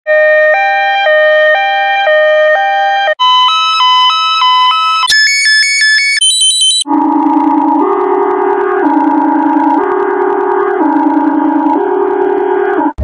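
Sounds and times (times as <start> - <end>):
two-tone ambulance siren: 0.1 - 13.0.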